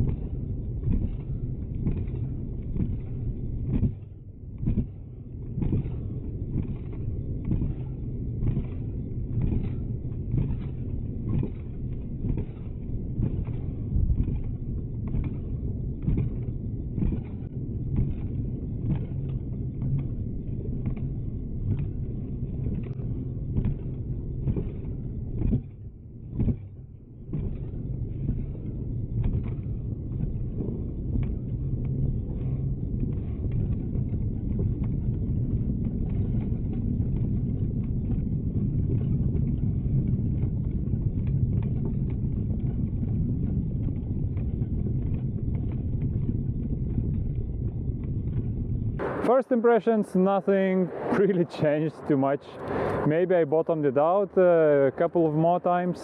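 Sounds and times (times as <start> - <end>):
scooter riding rumble: 0.0 - 56.0.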